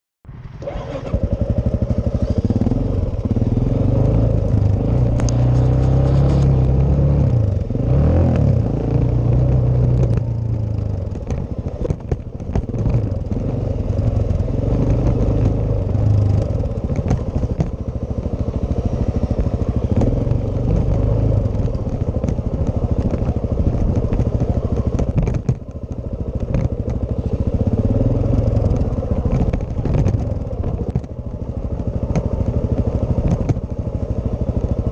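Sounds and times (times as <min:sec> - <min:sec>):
motorcycle engine revving: 0:00.3 - 0:34.9.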